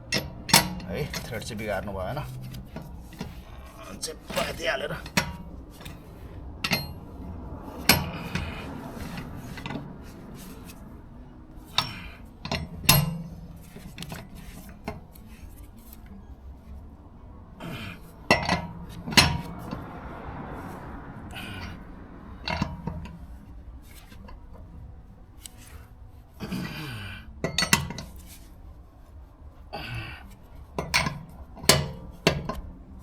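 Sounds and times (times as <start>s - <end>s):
wheel brace clinking on nuts: 0.0s - 16.8s, 17.5s - 28.5s, 29.8s - 33.0s.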